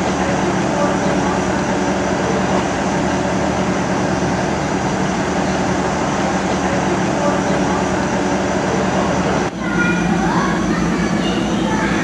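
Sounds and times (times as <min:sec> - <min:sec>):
diesel railcar idling: 0:00.0 - 0:12.0.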